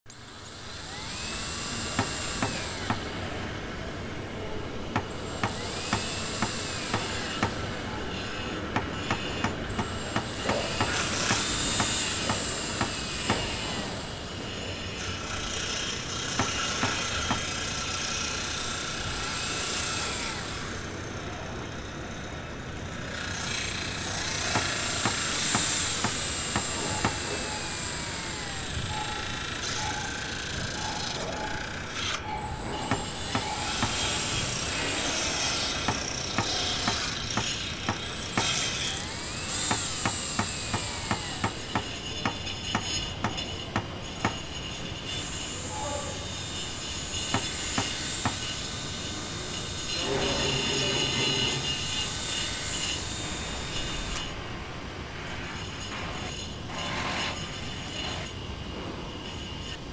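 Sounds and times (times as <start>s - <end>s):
construction site din: 0.1s - 59.9s.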